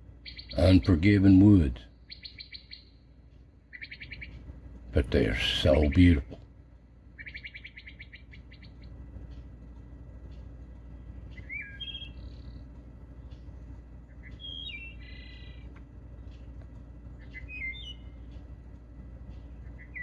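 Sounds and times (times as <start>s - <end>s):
low steady rumble: 0.0s - 20.0s
songbird singing: 0.0s - 20.0s.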